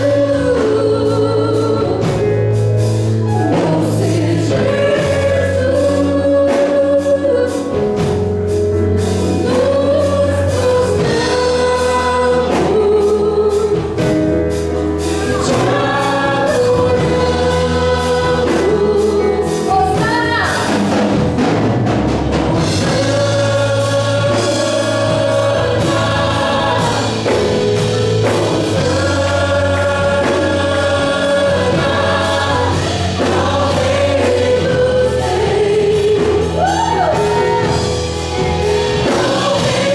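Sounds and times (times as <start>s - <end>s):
voices singing together: 0.0s - 2.6s, 3.3s - 8.0s, 9.0s - 21.1s, 22.6s - 39.9s
band playing: 0.0s - 39.9s
bass line: 0.0s - 39.9s
drums: 0.0s - 39.9s.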